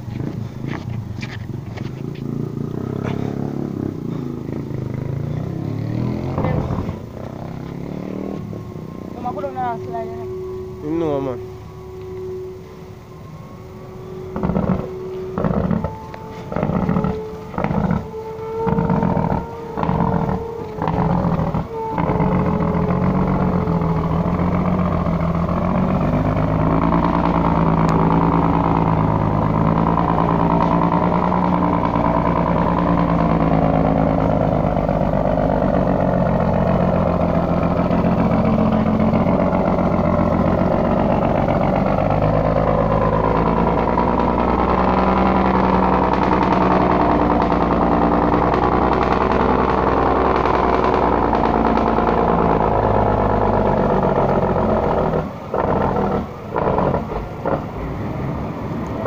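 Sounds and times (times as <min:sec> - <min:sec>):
truck diesel engine working hard: 0:00.0 - 0:59.0.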